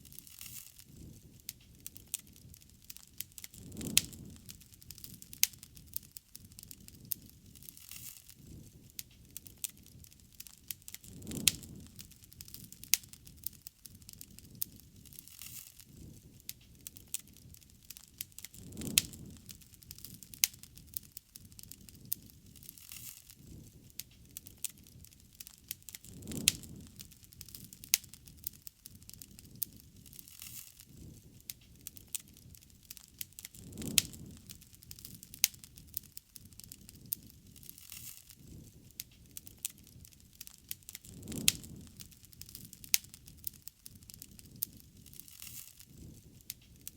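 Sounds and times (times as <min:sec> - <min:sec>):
burning wood crackling and popping: 0:00.0 - 0:46.9
fluttering rumble of flames: 0:00.0 - 0:46.9.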